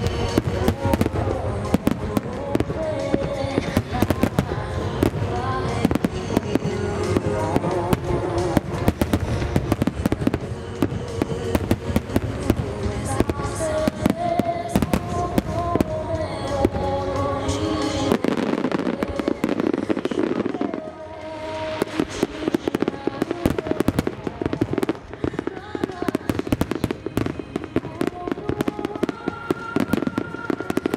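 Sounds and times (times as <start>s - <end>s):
fireworks bursting: 0.0s - 30.9s
music: 0.0s - 30.9s.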